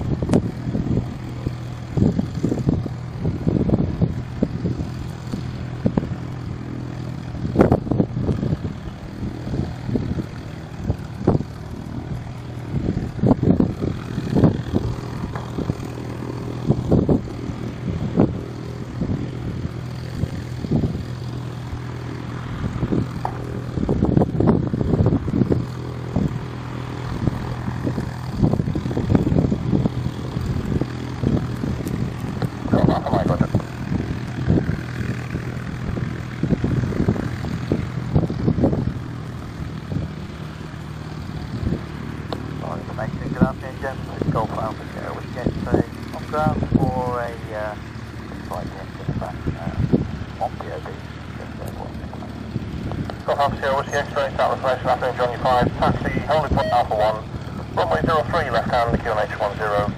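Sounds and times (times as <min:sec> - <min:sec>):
propeller engine droning: 0:00.0 - 0:59.9
wind buffeting microphone: 0:00.0 - 0:59.9.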